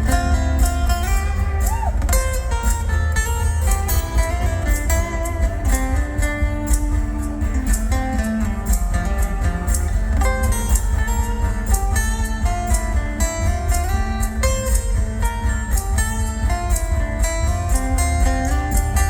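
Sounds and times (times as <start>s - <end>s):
guitar lines: 0.0s - 19.0s
heavy steady bass: 0.0s - 19.0s.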